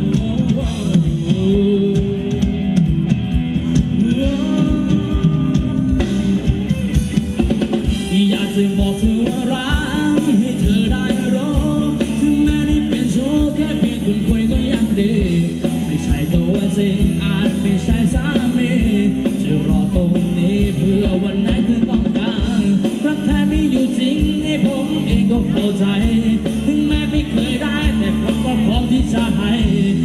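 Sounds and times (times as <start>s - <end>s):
person singing: 0.0s - 2.9s, 3.6s - 7.0s, 7.8s - 30.0s
band music through loudspeakers: 0.0s - 30.0s
steady drumbeat: 0.0s - 30.0s.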